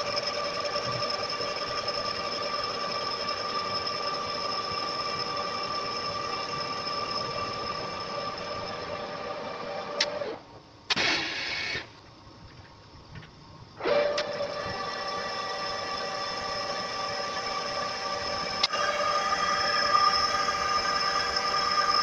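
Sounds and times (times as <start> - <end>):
metal lathe cutting whine: 0.0 - 10.4, 13.8 - 22.0.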